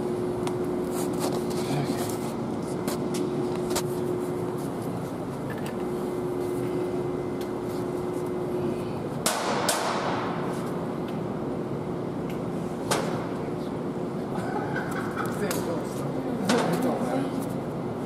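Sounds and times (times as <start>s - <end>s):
workshop hum: 0.0s - 18.0s.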